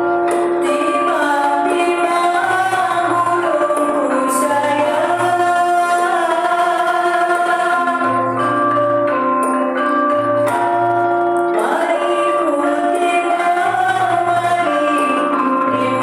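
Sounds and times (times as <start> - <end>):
woman singing: 0.2 - 9.2, 11.3 - 16.0.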